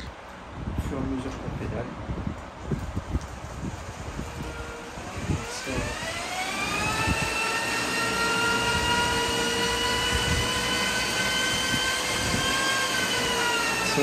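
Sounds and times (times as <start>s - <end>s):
e-bike motor whine: 2.7s - 14.0s.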